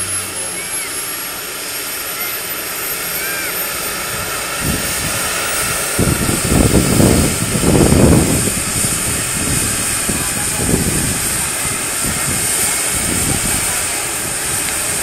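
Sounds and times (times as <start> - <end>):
helicopter turbine whine: 0.0 - 15.0
low gusty rumbles: 1.2 - 15.0.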